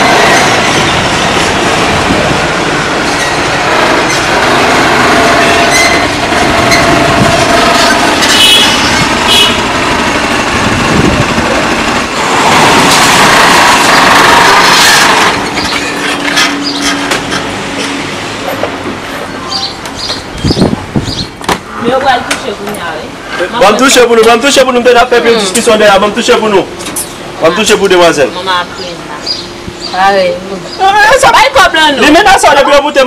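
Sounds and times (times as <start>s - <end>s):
vehicle and street noise: 0.0s - 33.0s.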